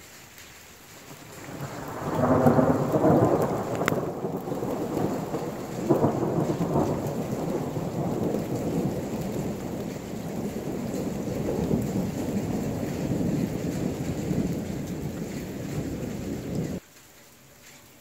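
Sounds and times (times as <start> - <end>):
thunder rumbling: 1.0 - 16.8.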